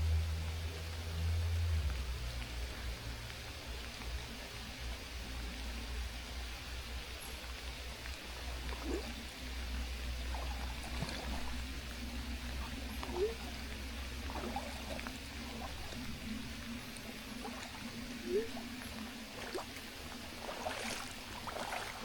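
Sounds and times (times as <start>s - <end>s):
low rumble: 0.0s - 21.8s
rain falling: 0.0s - 22.0s
river water flowing: 0.0s - 22.0s
water gurgles and splashes: 0.0s - 22.0s.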